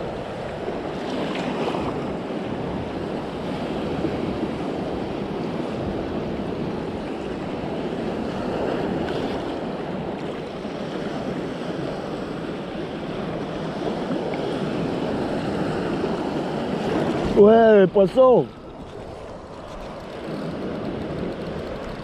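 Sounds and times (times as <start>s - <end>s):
small waves washing and breaking: 0.0s - 22.0s
wind on microphone: 0.0s - 22.0s.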